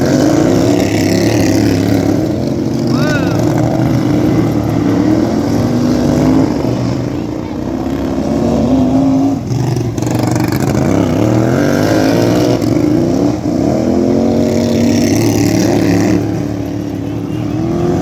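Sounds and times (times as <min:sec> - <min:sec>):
lawn tractor engines revving: 0:00.0 - 0:18.0.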